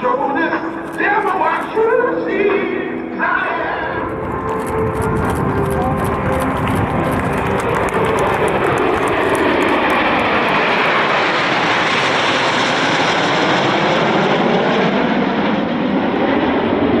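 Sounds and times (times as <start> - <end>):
jets roaring overhead: 0.0 - 17.0.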